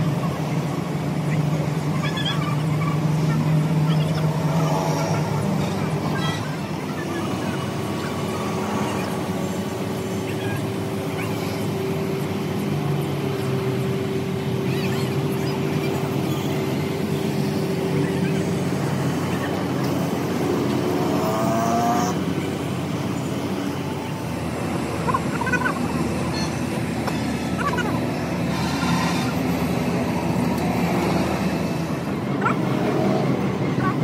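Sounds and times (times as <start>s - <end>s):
engine running with low hum: 0.0s - 34.0s.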